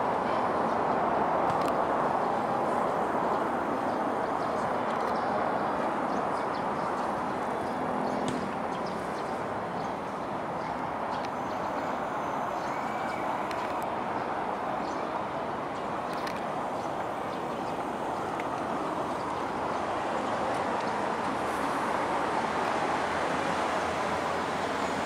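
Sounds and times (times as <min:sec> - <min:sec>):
distant city traffic hum: 0:00.0 - 0:25.0.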